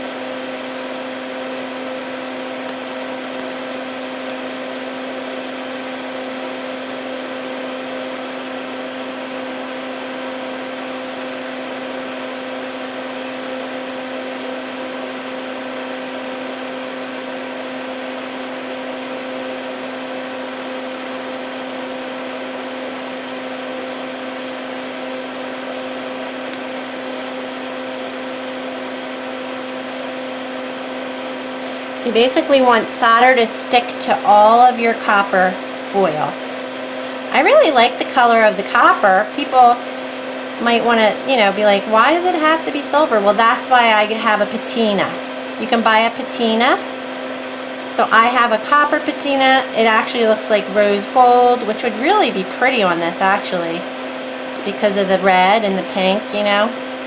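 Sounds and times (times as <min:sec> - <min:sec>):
extractor fan whirring: 0:00.0 - 0:57.0.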